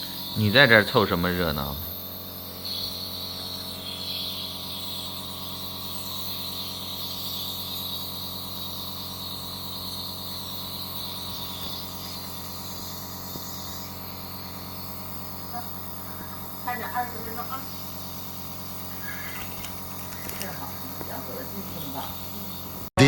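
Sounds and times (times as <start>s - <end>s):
hiss of air and mist: 0.0s - 23.0s
nebulizer electric hum: 0.0s - 23.0s.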